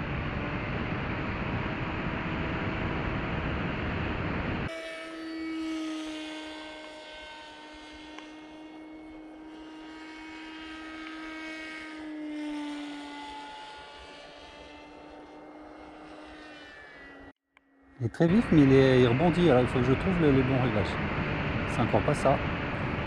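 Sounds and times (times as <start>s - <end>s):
model plane motor buzzing: 0.0s - 23.0s.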